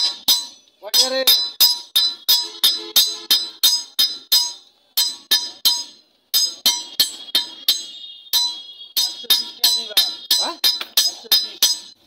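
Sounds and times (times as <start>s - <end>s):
hammer clanging on anvil: 0.0s - 12.0s.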